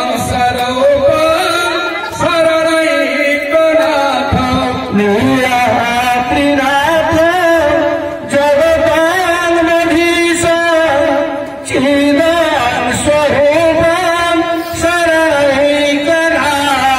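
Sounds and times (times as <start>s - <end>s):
devotional singing and chanting: 0.0s - 16.9s.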